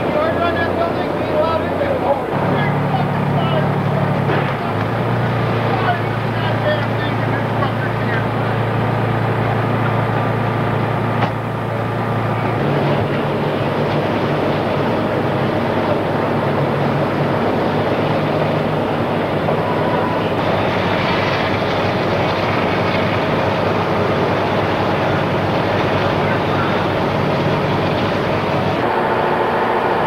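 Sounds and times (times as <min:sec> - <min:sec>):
fire engines and pumps rumbling: 0:00.0 - 0:30.0.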